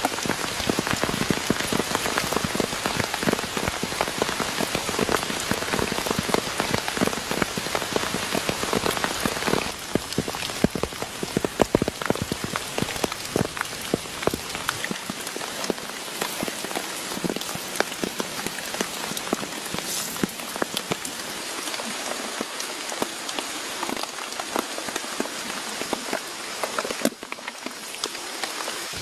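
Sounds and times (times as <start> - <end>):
raindrops striking close by: 0.0 - 29.0
steady rain falling: 0.0 - 29.0.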